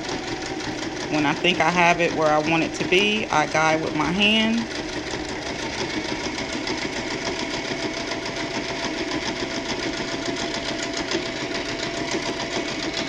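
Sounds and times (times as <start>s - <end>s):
sewing machine stitching: 0.0s - 13.0s.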